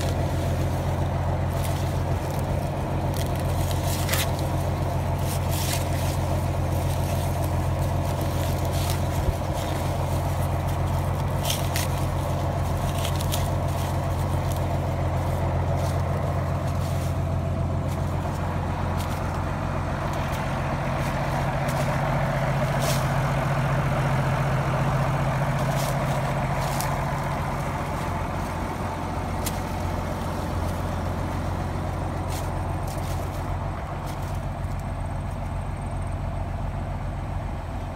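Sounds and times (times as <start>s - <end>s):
tractor engine droning: 0.0s - 37.9s.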